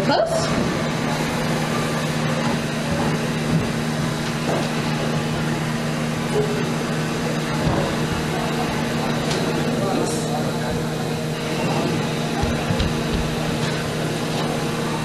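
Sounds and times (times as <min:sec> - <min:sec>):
faint sounds from people: 0:00.0 - 0:15.0
ventilation hum: 0:00.0 - 0:15.0.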